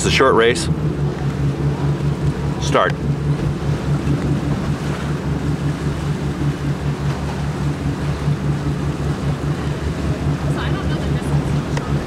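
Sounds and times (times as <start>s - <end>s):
boat motor running: 0.0s - 12.0s
water noise: 0.0s - 12.0s
wind: 0.0s - 12.0s.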